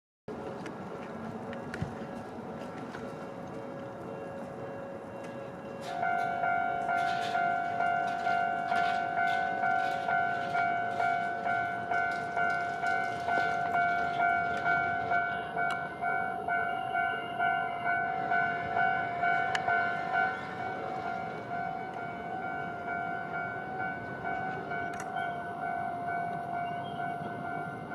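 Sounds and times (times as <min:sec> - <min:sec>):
level-crossing warning bell: 0:00.4 - 0:27.9.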